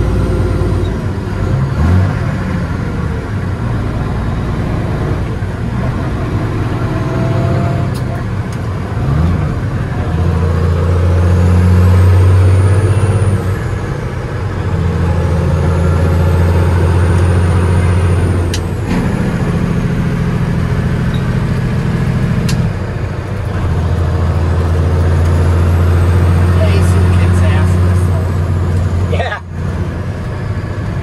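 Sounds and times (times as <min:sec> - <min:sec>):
diesel truck engine under load: 0:00.0 - 0:31.0.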